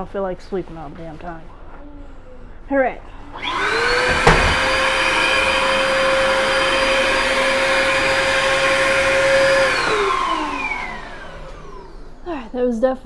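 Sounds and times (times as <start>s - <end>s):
vacuum cleaner motor whine: 0.0s - 12.9s.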